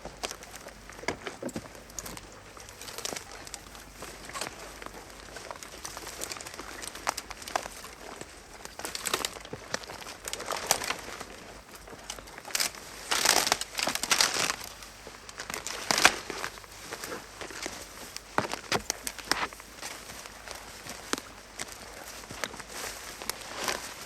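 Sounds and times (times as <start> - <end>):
footsteps through rustling undergrowth: 0.0 - 24.0.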